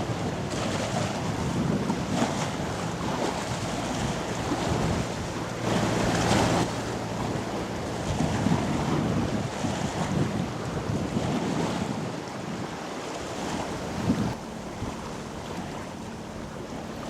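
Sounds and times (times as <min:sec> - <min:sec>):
river water moving: 0:00.0 - 0:17.0
ship engine drone: 0:00.0 - 0:17.0
wind buffeting microphone: 0:00.0 - 0:17.0.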